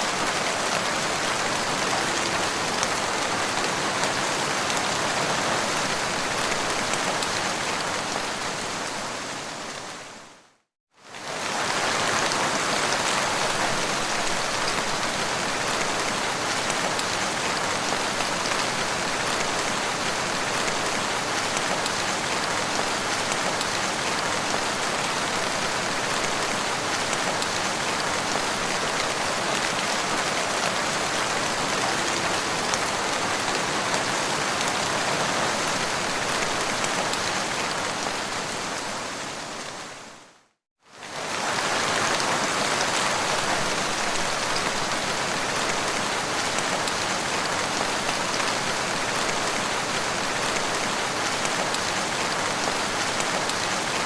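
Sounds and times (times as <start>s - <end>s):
rain falling on ground: 0.0s - 54.0s.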